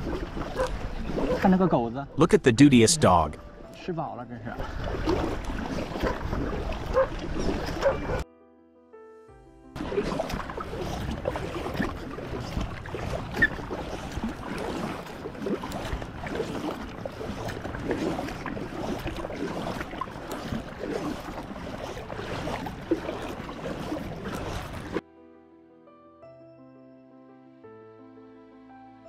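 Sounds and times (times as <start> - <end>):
paddle strokes splashing: 0.0 - 8.2, 9.8 - 25.0
water lapping against hull: 0.0 - 8.2, 9.8 - 25.0.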